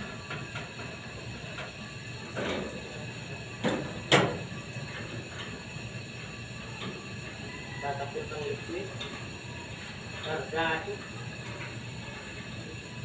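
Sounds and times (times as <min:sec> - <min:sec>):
steady hiss of liquid transfer: 0:00.0 - 0:13.0.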